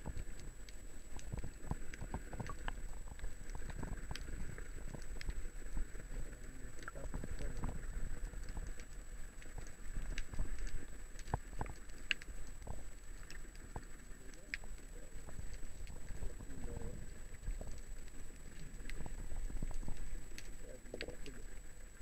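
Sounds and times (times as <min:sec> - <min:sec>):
muffled underwater rumble: 0:00.0 - 0:22.0
sharp clicks and pops: 0:00.0 - 0:22.0.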